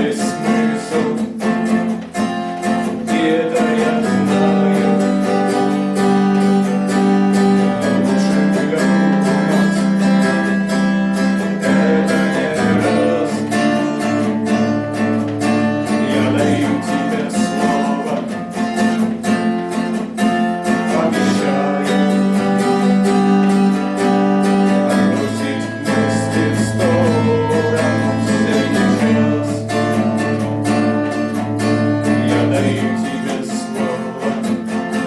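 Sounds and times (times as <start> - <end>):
strummed acoustic guitar: 0.0 - 35.0.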